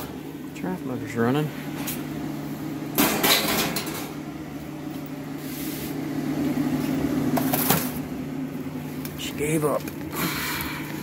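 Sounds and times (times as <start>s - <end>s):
furnace motor humming: 0.0s - 11.0s.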